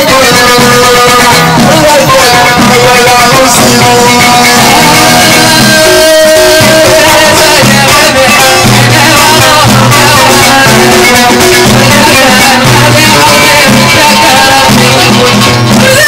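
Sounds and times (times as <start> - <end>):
frame drums and hand drum: 0.0 - 16.0
plucked lute: 0.0 - 16.0.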